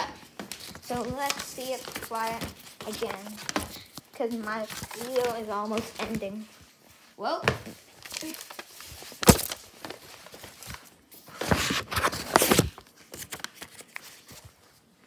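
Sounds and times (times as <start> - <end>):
rustling and scuffling: 0.0 - 15.0.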